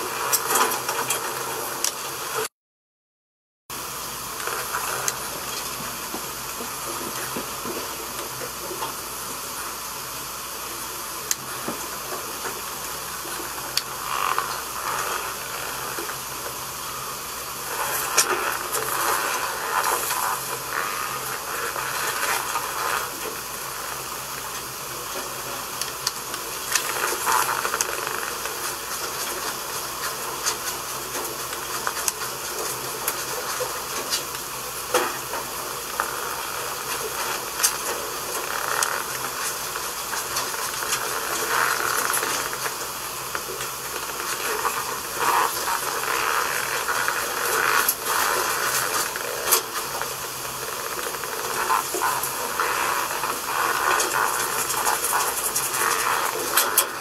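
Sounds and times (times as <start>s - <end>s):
steady hiss: 0.0s - 2.5s, 3.7s - 57.0s.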